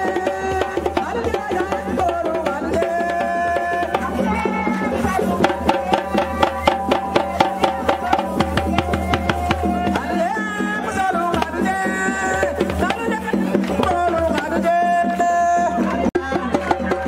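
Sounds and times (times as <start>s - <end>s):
drum beaten in quick strokes: 0.0s - 17.0s.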